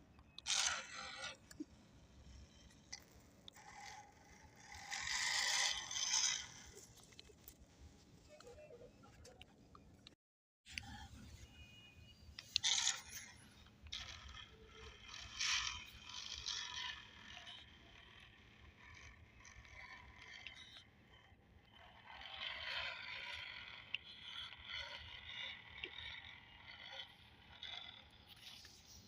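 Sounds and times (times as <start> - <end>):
faint scraping and rustling: 0.4 - 9.8, 10.7 - 29.0.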